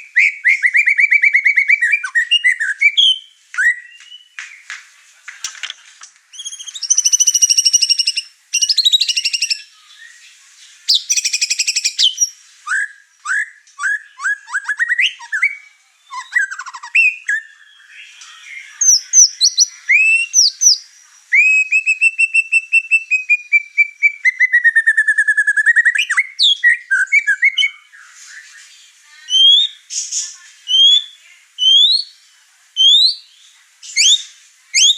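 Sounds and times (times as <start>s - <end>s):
songbird singing whistled phrases: 0.0s - 4.7s, 6.3s - 34.9s.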